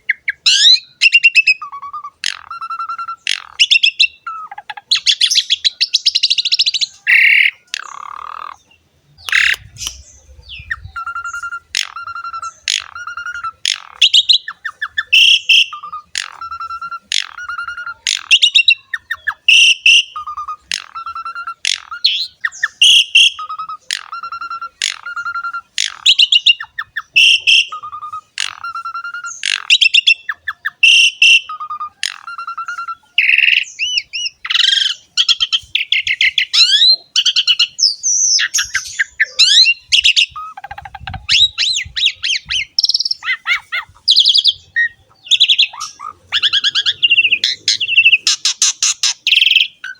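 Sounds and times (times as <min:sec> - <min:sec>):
buzzy bird trill: 0:00.0 - 0:49.9
starling singing: 0:00.0 - 0:49.9.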